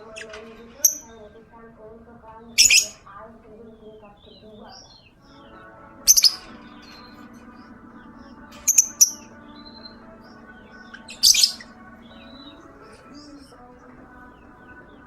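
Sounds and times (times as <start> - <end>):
bird high-pitched chirps: 0.0 - 1.4, 2.5 - 15.0
music-like background tones: 0.0 - 15.0.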